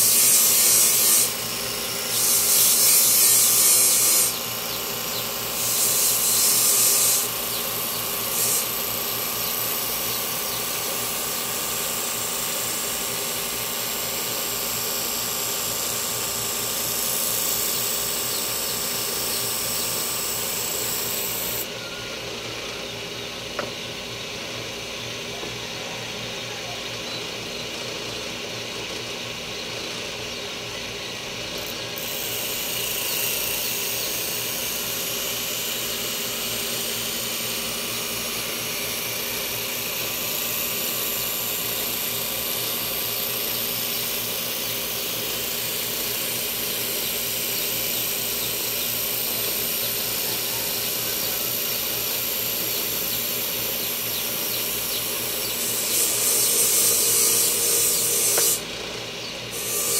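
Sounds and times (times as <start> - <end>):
power tool motor grinding: 0.0 - 24.1, 31.5 - 59.9.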